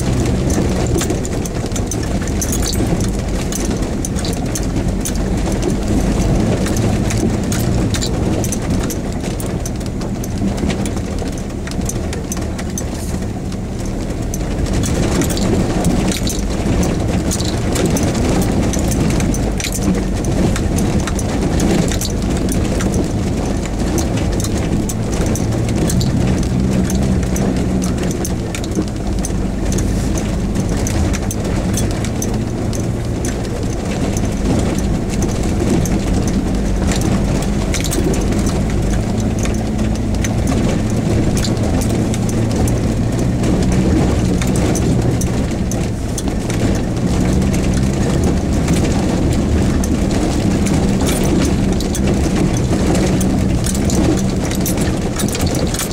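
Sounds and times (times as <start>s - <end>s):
body knocks and rattles: 0.0s - 55.9s
stones under tyres: 0.0s - 55.9s
vehicle engine low drone: 0.0s - 55.9s.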